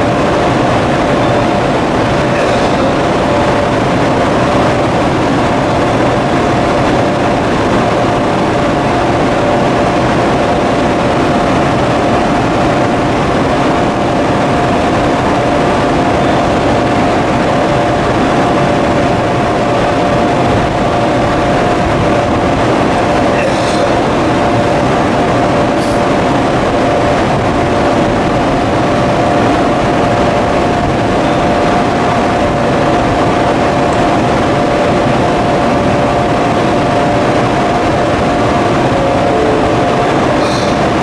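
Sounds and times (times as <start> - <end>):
electric locomotive drone: 0.0 - 41.0
thin steady whine: 0.0 - 41.0.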